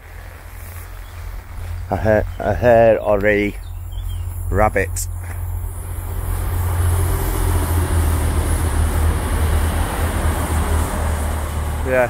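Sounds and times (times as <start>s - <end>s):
passenger train rumbling past: 0.0s - 12.0s.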